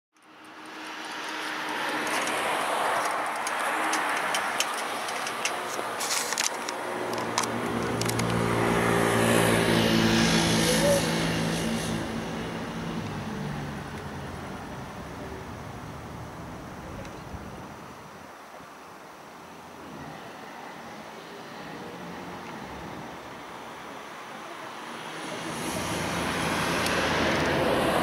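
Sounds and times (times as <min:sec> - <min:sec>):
passing vehicle engine: 0:00.2 - 0:17.1, 0:21.2 - 0:28.0.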